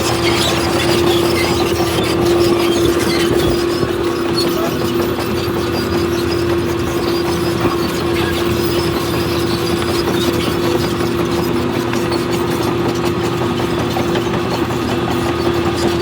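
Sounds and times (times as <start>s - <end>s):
constant whine: 0.0s - 16.0s
heavy diesel machinery running: 0.0s - 16.0s.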